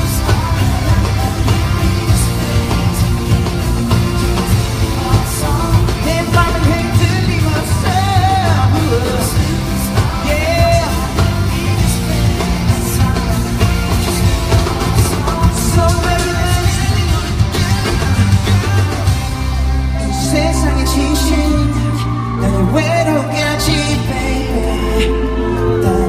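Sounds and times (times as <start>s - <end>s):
live band playing pop-rock: 0.0s - 26.0s
person singing: 0.0s - 26.0s
steady drum beat: 0.0s - 26.0s.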